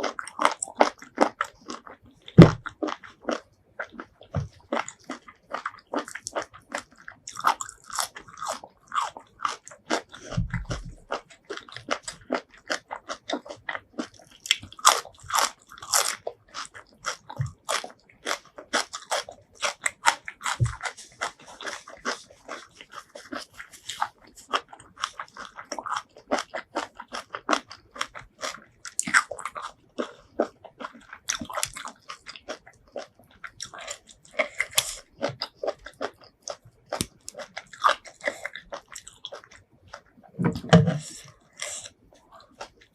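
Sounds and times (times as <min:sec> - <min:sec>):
person chewing seafood: 0:00.0 - 0:42.9.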